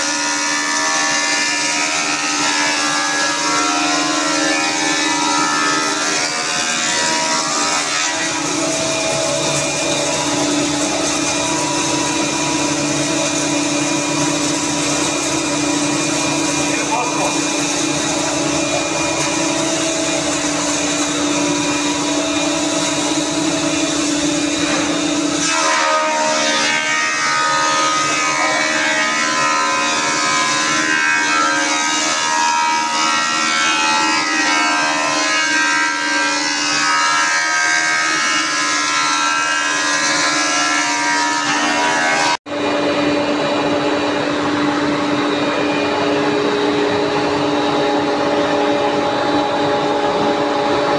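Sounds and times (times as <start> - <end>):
woodworking machines whining: 0.0 - 50.9.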